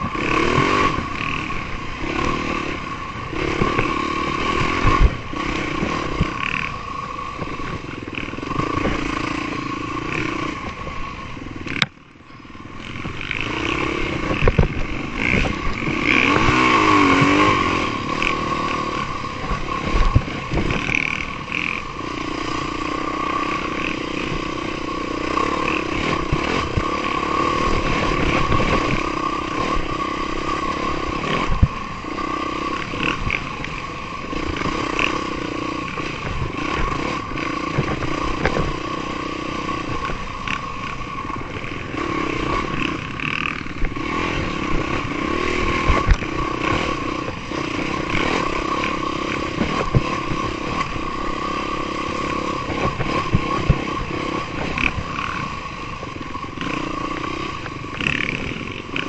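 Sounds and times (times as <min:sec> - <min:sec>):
bike rattling over bumps: 0:00.0 - 0:59.0
dirt bike engine revving: 0:00.0 - 0:59.0.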